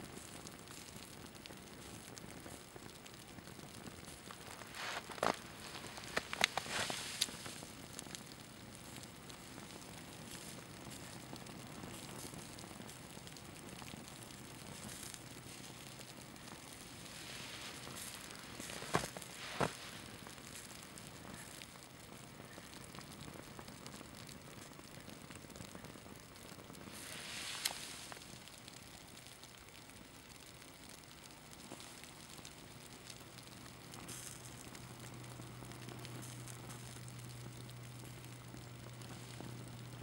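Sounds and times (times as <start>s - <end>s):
small flame crackling and hissing: 0.0s - 40.0s.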